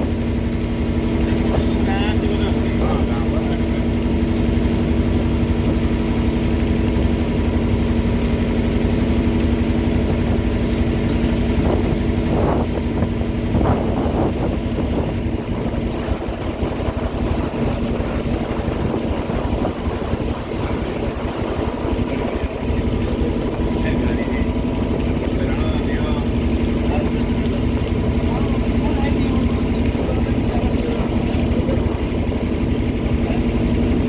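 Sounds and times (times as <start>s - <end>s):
boat engine rumbling: 0.0s - 34.0s.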